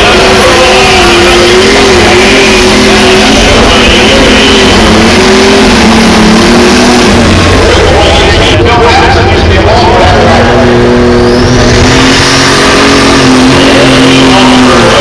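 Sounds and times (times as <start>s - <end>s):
diesel tractor engine under load: 0.0s - 15.0s.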